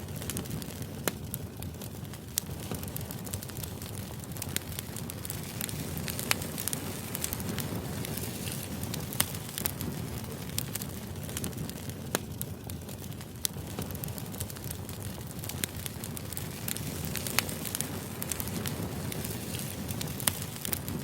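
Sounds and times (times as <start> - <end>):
crackles and clicks: 0.0 - 21.0.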